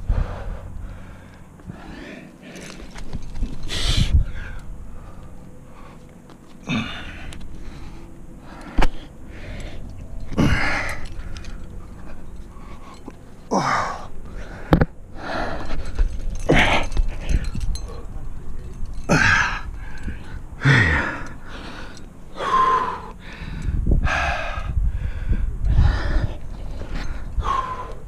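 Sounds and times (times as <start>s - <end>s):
person breathing hard: 0.0s - 18.1s, 19.1s - 28.0s.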